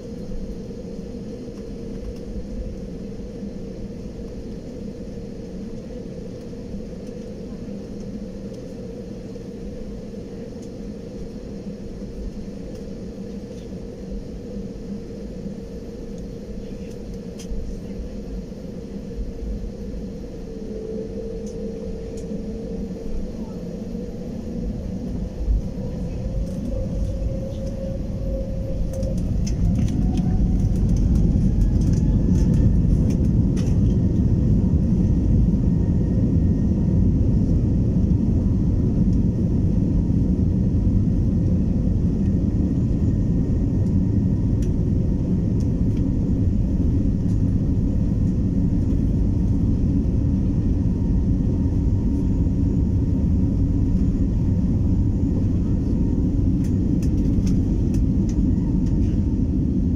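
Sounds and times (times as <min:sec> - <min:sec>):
jet engines heard from cabin: 0:00.0 - 0:59.9.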